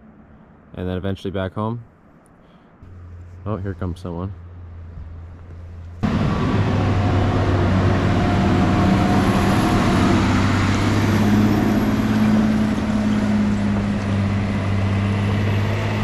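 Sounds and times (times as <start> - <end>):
road noise on gravel: 0.0 - 16.0
diesel truck engine running: 2.8 - 16.0.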